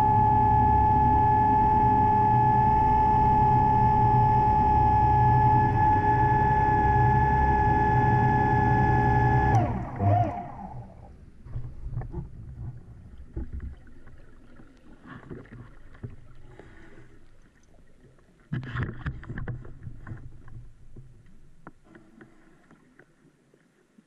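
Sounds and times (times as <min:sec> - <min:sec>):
low rumbling underwater noise: 0:00.0 - 0:24.0.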